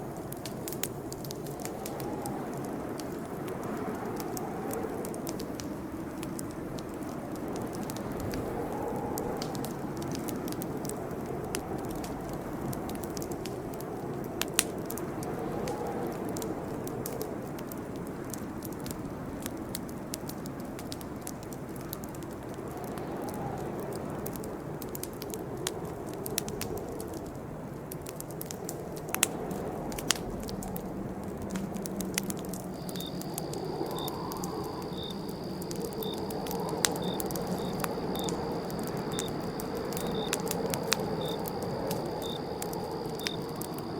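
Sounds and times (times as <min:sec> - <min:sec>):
campfire crackling and popping: 0:00.0 - 0:43.9
rush of flame: 0:00.0 - 0:43.9.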